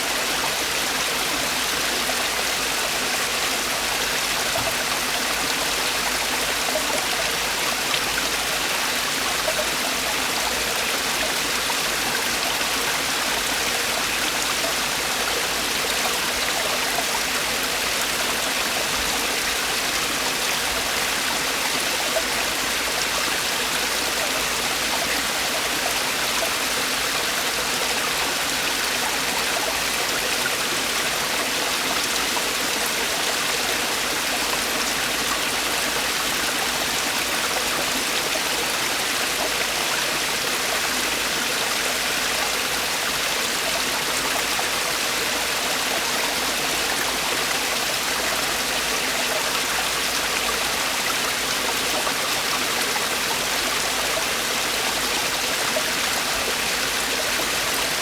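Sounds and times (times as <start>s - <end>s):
stream falling over rocks: 0.0s - 58.0s.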